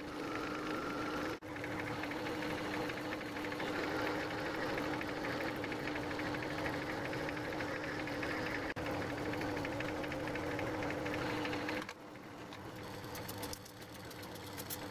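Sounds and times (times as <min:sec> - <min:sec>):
lathe motor hum: 0:00.0 - 0:14.9.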